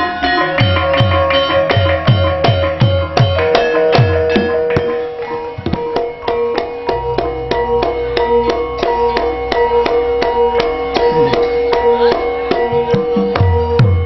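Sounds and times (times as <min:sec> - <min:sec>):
tuned metal percussion: 0:00.2 - 0:14.0.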